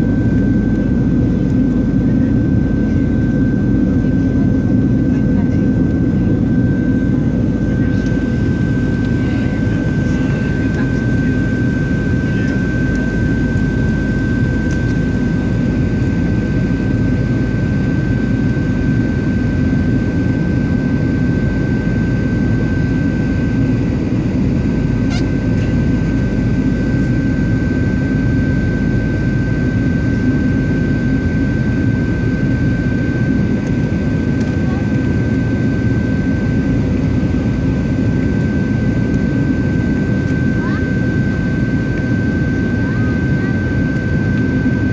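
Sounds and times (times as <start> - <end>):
constant high whine: 0.0 - 44.9
jet engine roar: 0.0 - 44.9.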